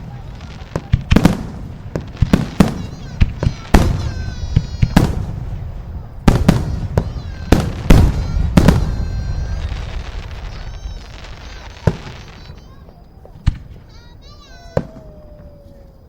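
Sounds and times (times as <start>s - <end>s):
fireworks banging: 0.0s - 16.0s
fireworks rumble: 0.0s - 16.0s.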